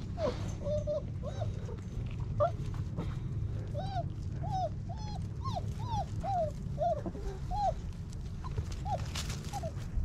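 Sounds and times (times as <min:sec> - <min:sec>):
puppy whimpering: 0:00.0 - 0:10.0
steady low rumble: 0:00.0 - 0:10.0.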